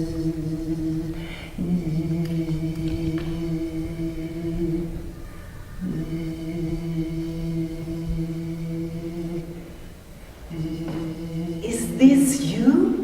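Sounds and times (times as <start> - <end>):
person chanting long held notes: 0.0 - 13.0.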